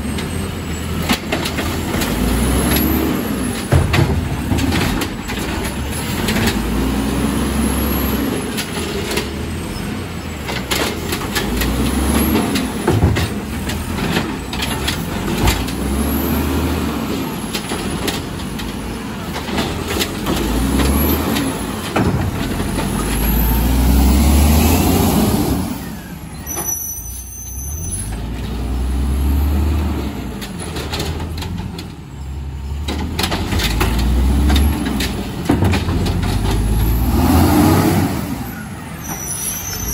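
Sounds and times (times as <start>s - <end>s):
garbage truck engine revving: 0.0s - 26.7s, 28.0s - 31.9s, 32.5s - 39.9s
clanks and bangs of cart and arm: 0.0s - 27.2s, 28.0s - 39.9s.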